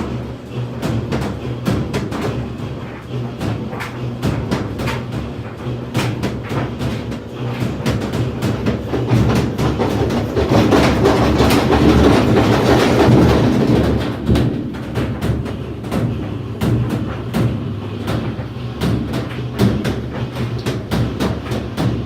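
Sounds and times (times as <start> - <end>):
washing machine rumbling: 0.0 - 22.0
rapid rattling knocks: 0.8 - 22.0.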